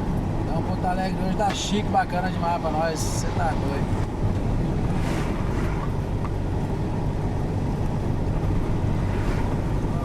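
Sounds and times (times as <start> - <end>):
road noise: 0.0 - 10.0
truck diesel engine rumble: 0.0 - 10.0.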